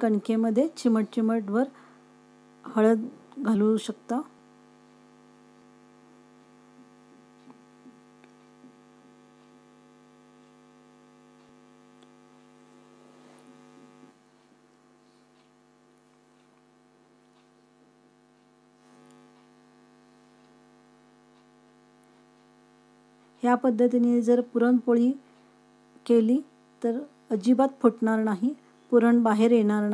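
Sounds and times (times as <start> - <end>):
faint electrical hum: 0.0 - 29.9.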